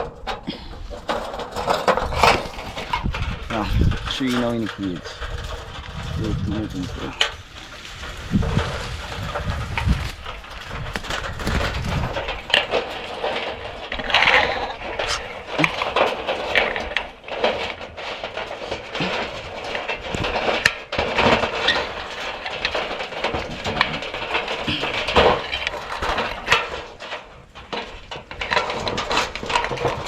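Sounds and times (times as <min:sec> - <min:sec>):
clicks and scrapes in cage: 0:00.0 - 0:30.0.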